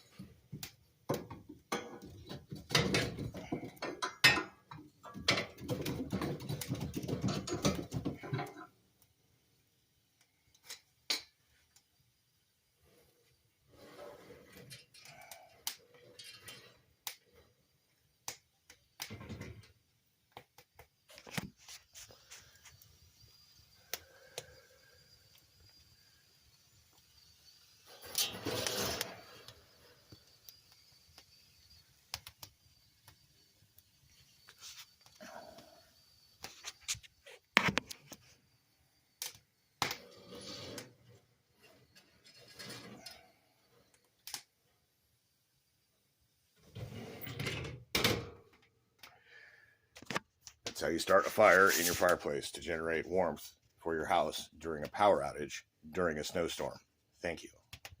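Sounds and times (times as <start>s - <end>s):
wood fire crackling: 0.0s - 47.2s, 49.0s - 58.0s
fire hissing: 0.0s - 47.3s, 49.1s - 56.8s.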